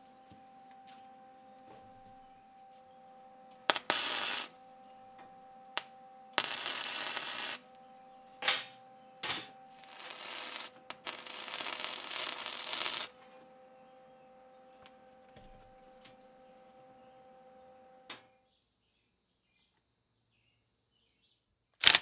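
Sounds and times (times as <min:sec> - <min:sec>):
arc welder crackling: 0:00.0 - 0:18.2.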